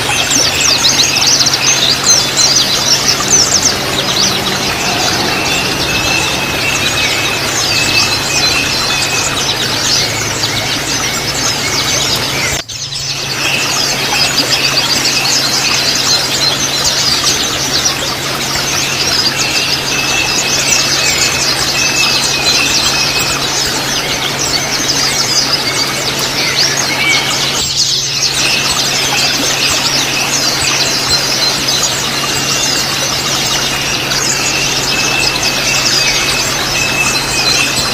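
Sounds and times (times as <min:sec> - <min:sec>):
small birds twittering: 0:00.0 - 0:37.9.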